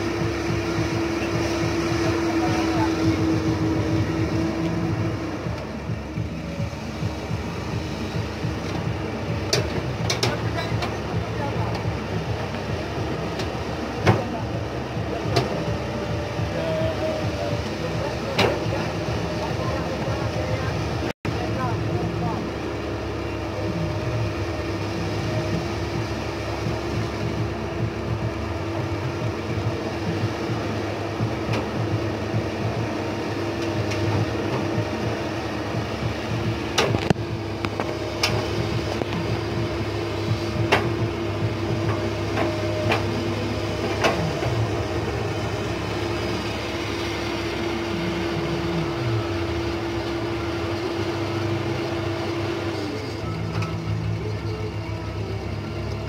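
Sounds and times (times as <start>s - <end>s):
excavator diesel engine running: 0.0s - 56.0s
hydraulic whine: 0.0s - 56.0s.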